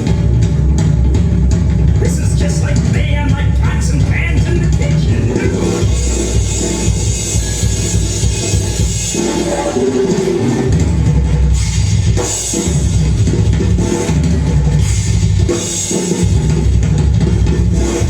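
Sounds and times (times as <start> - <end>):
drum solo: 0.0 - 18.0.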